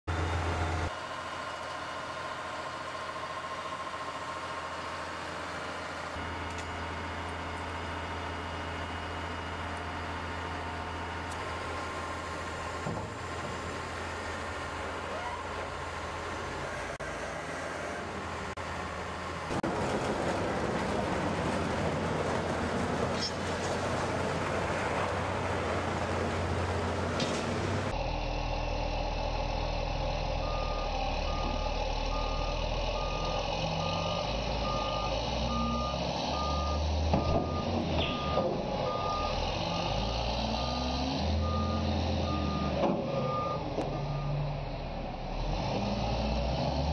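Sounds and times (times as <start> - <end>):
heavy machine engine humming: 0.1 - 46.8.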